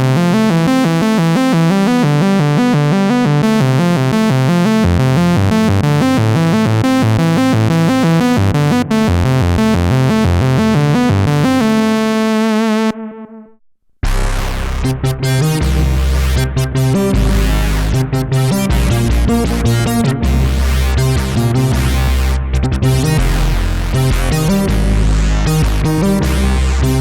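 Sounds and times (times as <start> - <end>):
synth bass line: 0.0 - 27.0
synthesizer lead notes: 0.0 - 27.0.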